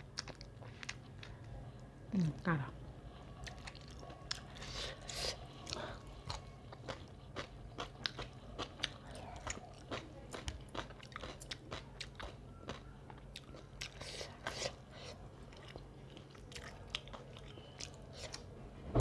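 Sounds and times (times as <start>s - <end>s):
person chewing food: 0.0s - 1.6s, 3.1s - 18.5s.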